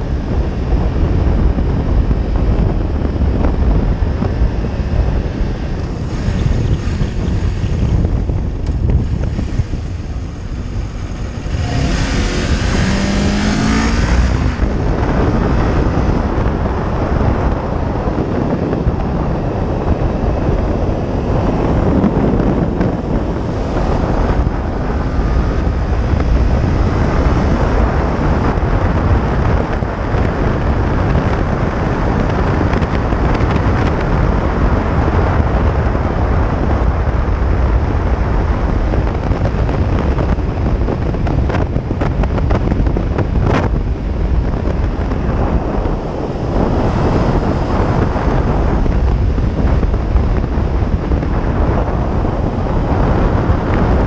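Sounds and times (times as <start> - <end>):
motorcycle engine revving: 0.0 - 54.0
wind buffeting microphone: 0.0 - 54.0.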